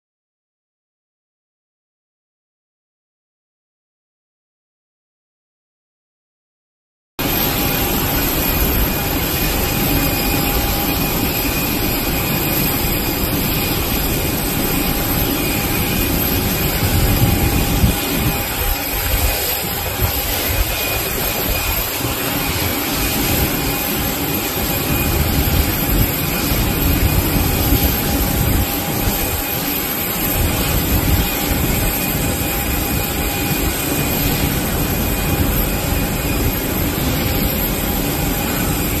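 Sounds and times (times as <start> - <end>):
jet aircraft rumble and hiss: 7.2 - 39.0.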